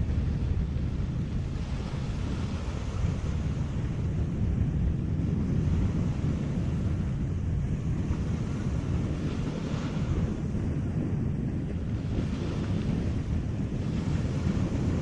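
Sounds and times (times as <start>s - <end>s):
sea waves washing: 0.0s - 15.0s
wind buffeting microphone: 0.0s - 15.0s.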